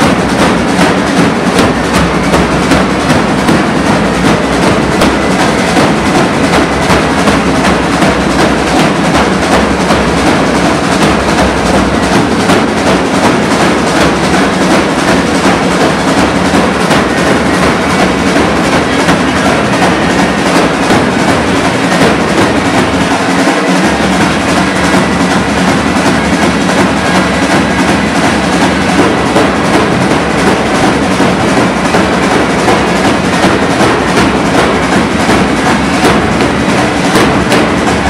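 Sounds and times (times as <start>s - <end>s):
bass drum beats: 0.0s - 38.0s
side drums drumming: 0.0s - 38.0s
bagpipes: 0.2s - 38.0s.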